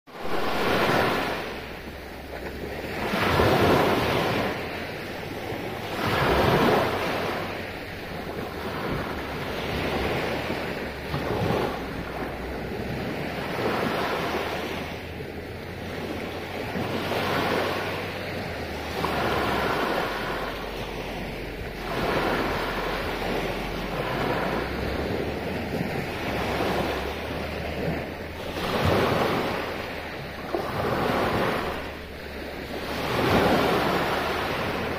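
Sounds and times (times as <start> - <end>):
waves breaking on a beach: 0.1 - 34.9
wind rumble on microphone: 0.1 - 34.9.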